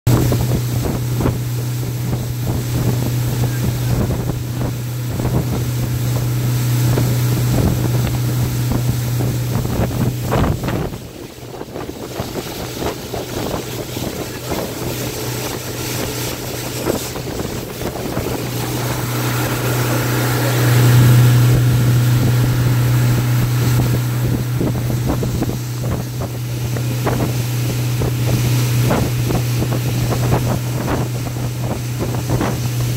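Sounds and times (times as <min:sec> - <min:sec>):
boat wake rushing: 0:00.0 - 0:32.9
outboard motor droning: 0:00.1 - 0:32.9
wind on microphone: 0:00.1 - 0:32.9.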